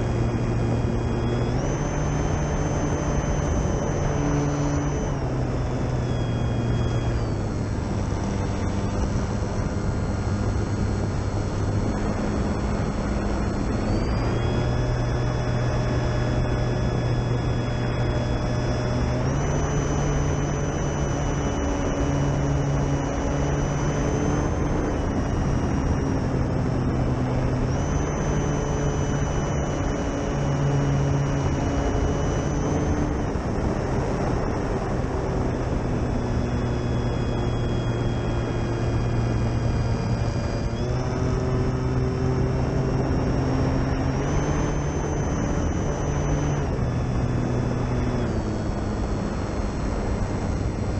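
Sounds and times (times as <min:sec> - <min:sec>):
constant rushing noise: 0:00.0 - 0:50.9
electric motor and propeller whine: 0:00.0 - 0:50.9.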